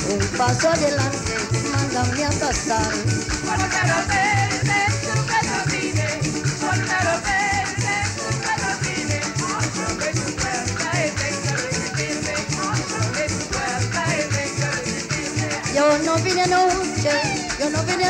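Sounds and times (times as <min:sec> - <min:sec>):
guitars strumming: 0:00.0 - 0:18.0
maracas shaking: 0:00.0 - 0:18.0.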